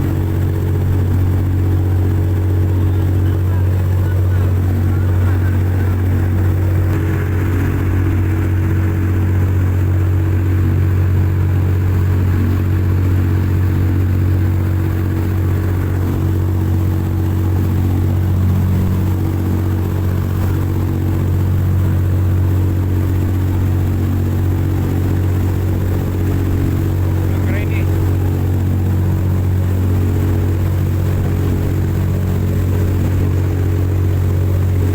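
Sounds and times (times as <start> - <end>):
speedboat engine droning: 0.0 - 34.9.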